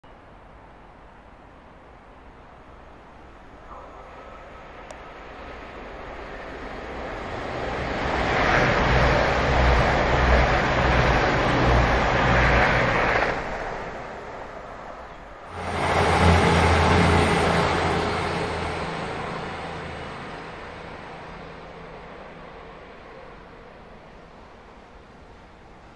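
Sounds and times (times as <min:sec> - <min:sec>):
diesel train passing: 0:00.0 - 0:25.9.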